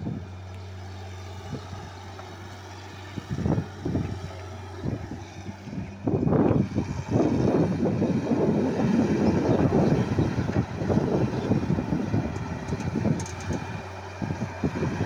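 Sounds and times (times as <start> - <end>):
excavator diesel engine: 0.0 - 15.0.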